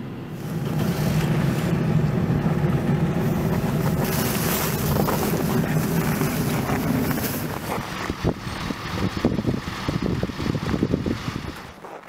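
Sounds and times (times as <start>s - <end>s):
car engine cranking rough: 0.0s - 12.0s.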